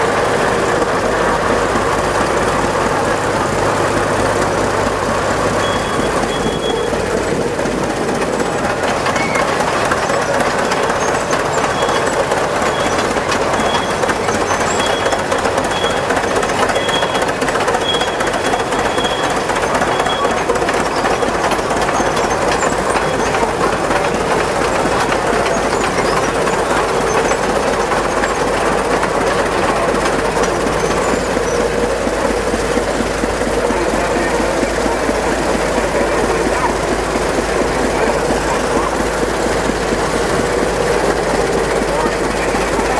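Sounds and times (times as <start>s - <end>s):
old engine clattering: 0.0s - 42.9s.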